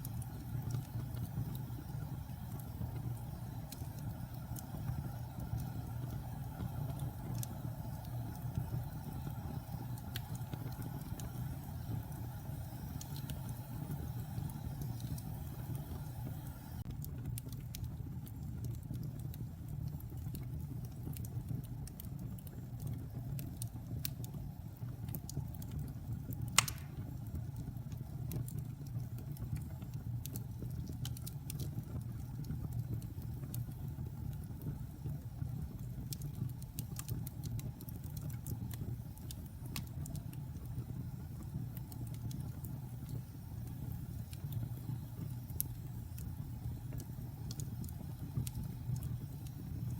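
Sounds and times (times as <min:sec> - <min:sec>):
fire crackling: 0:00.0 - 0:49.9
fire rumbling: 0:00.0 - 0:49.9
wood fire popping: 0:00.0 - 0:49.9.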